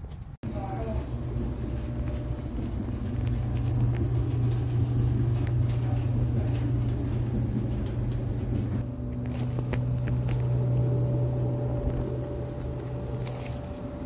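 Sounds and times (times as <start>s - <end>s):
clothes dryer running: 0.4s - 14.0s.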